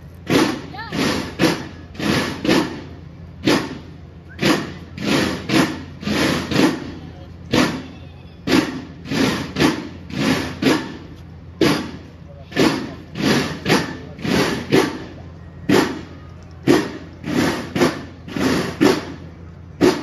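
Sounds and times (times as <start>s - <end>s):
drum beats in march rhythm: 0.2s - 20.0s.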